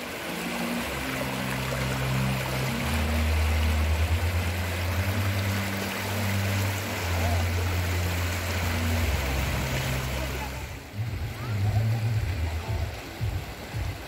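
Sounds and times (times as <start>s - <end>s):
water rushing down a canal: 0.0s - 14.0s.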